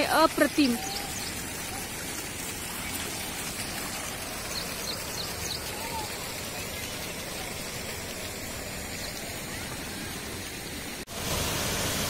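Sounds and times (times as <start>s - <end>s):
outdoor hiss: 0.0s - 12.0s
water pouring down fountain: 0.0s - 12.0s.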